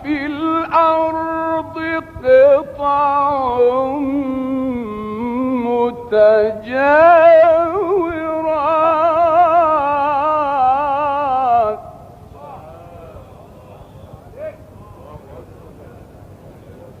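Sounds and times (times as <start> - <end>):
man chanting: 0.0 - 16.1
faint hall sound: 0.0 - 17.0.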